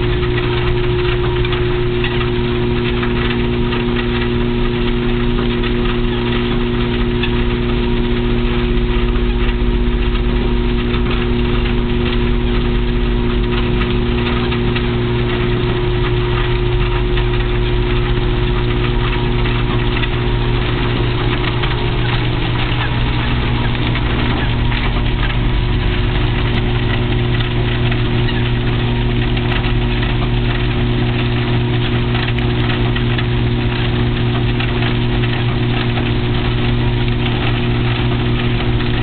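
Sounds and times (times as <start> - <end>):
treadmill motor hum: 0.0 - 39.0.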